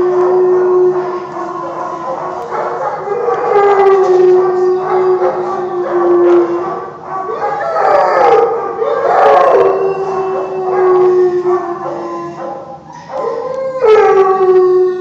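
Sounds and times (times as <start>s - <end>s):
dogs howling: 0.0s - 15.0s.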